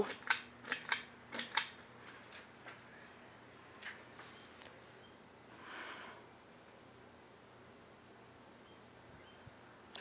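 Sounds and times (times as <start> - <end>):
ceiling fan motor hum: 0.0 - 10.0.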